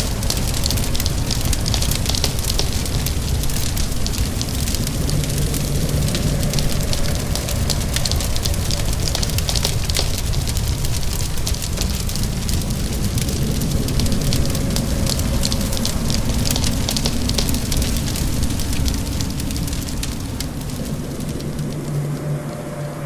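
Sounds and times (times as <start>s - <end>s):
steady rain: 0.0s - 23.0s
wood fire crackling and popping: 0.0s - 23.0s.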